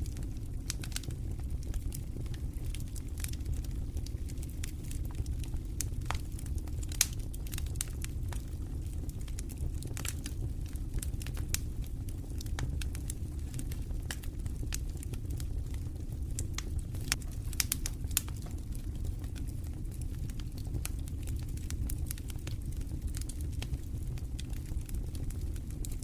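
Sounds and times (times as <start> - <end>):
campfire crackling and popping: 0.0 - 26.0
low rumble of wind: 0.0 - 26.0.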